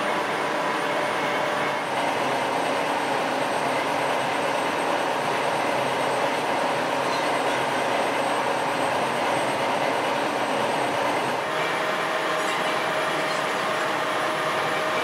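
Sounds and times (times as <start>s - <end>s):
heavy industrial machinery running: 0.0s - 15.0s.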